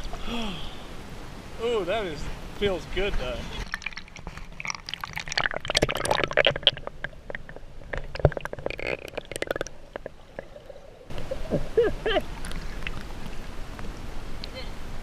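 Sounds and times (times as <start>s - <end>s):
water splashing and sloshing: 2.2s - 14.4s.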